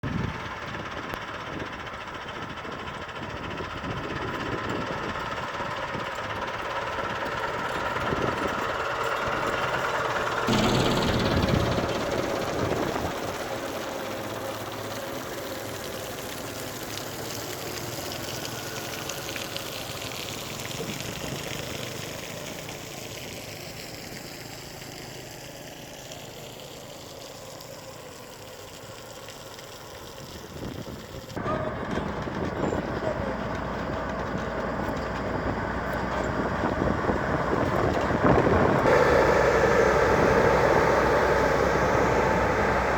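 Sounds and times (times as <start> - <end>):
vehicle engines running: 0.0 - 42.9.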